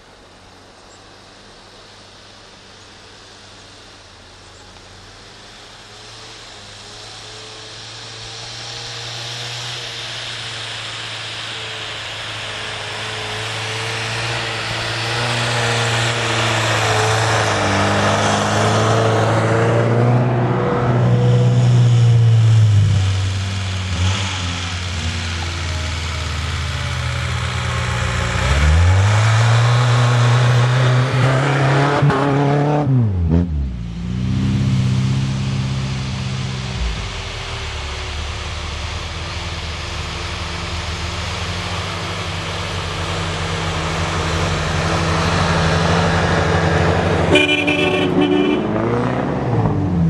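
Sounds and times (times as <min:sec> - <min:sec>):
tyres hissing through snow: 0:00.0 - 0:49.2
car engines at low revs: 0:00.0 - 0:50.0.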